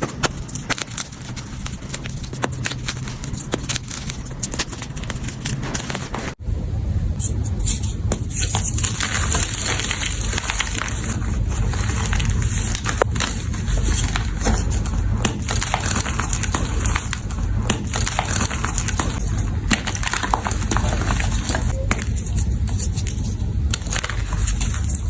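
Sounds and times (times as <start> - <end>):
chalk crunching and crackling: 0.0 - 6.4, 7.2 - 25.0.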